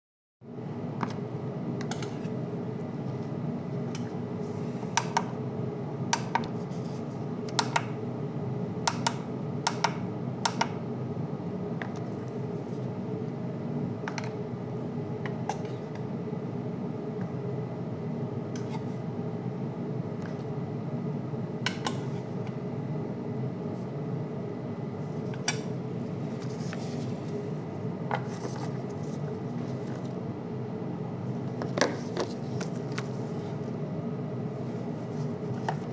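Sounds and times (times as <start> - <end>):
steady low hum: 0.4 - 35.9.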